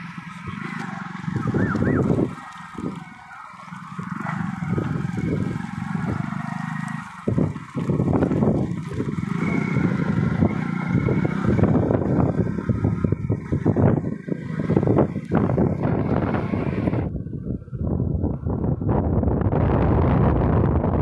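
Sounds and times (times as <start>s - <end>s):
vehicle engine running: 0.0s - 20.1s
wind rumbling on microphone: 0.0s - 21.0s.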